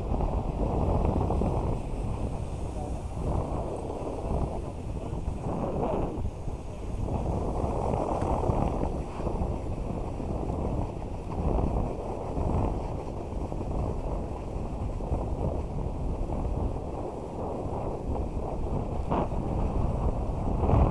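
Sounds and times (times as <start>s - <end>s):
snowboard scraping over snow: 0.0s - 20.9s
wind buffeting microphone: 0.0s - 20.9s.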